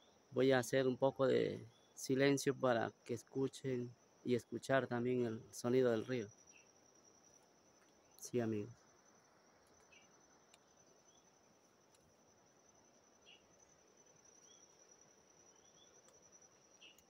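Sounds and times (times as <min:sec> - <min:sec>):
faint chirps: 0:00.0 - 0:17.0
faint insect drone: 0:00.0 - 0:17.0.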